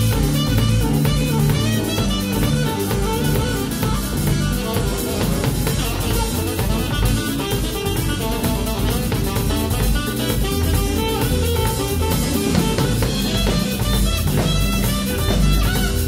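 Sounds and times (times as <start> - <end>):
drum kit: 0.0 - 16.0
electric guitar: 0.0 - 16.0
live band playing: 0.0 - 16.0.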